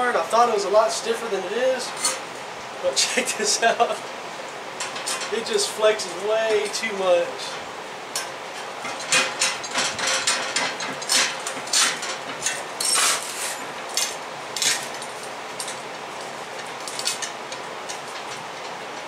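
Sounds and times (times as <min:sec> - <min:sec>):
metal grill stand clanking and rattling: 0:01.8 - 0:04.1, 0:04.7 - 0:19.0.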